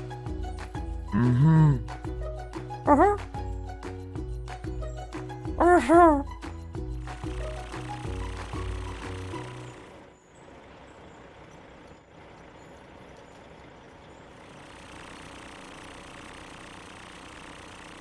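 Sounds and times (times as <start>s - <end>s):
truck engine: 0.0s - 18.0s.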